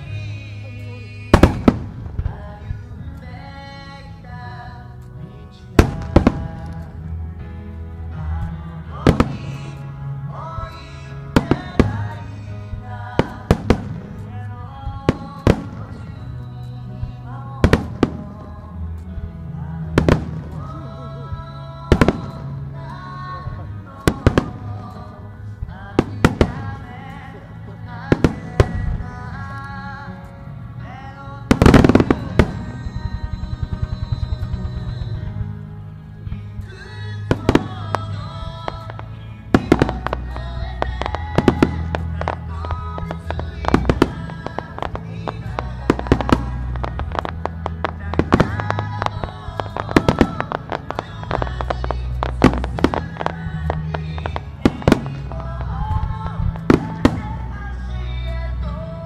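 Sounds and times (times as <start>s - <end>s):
music playing: 0.0s - 59.0s.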